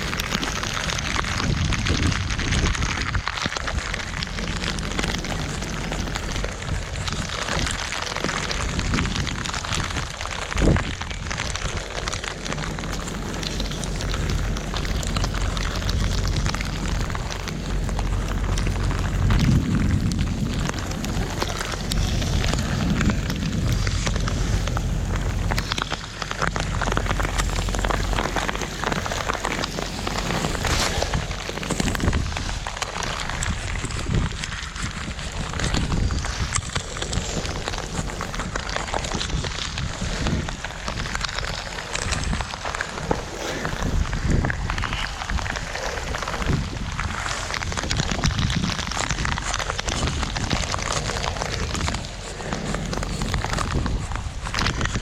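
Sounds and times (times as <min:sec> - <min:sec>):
low rumble: 0:00.0 - 0:55.0
rain drops pattering: 0:00.0 - 0:55.0.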